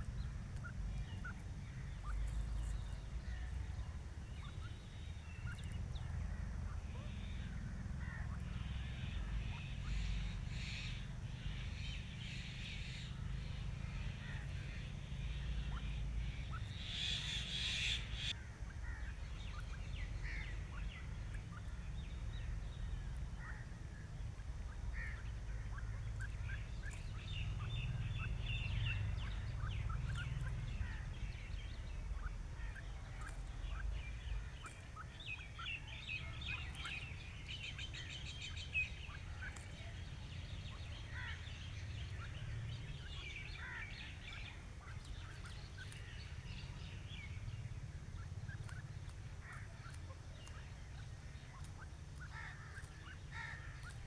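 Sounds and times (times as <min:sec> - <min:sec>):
francolins calling: 0:00.0 - 0:54.0
steady low rumble: 0:00.0 - 0:54.0.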